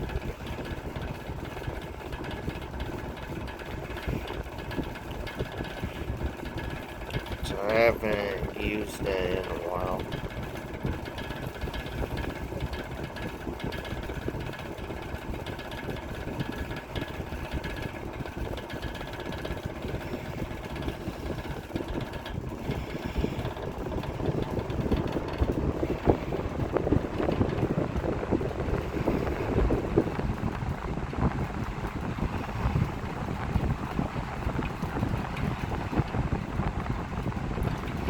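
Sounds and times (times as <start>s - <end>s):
air rushing from fan blades: 0.0s - 38.0s
fan motor hum: 0.0s - 38.0s.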